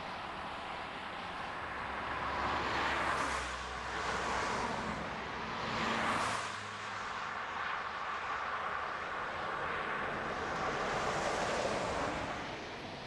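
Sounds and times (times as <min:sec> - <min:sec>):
cars passing on a road: 0:00.0 - 0:13.0.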